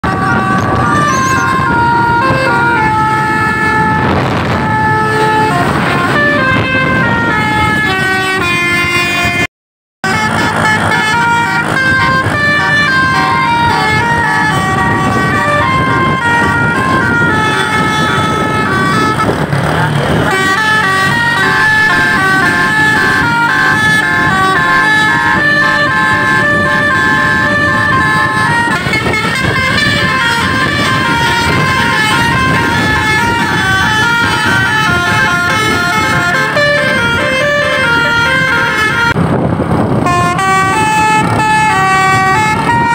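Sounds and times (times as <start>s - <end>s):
bus horn playing melody: 0.0s - 42.9s
traffic passing: 0.0s - 42.9s.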